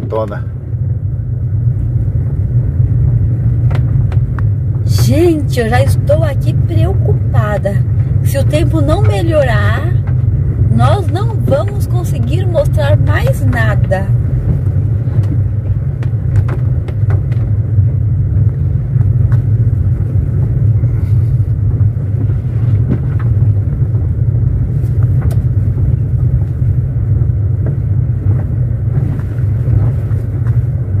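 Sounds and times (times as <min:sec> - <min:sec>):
engine and tyre rumble: 0:00.0 - 0:31.0.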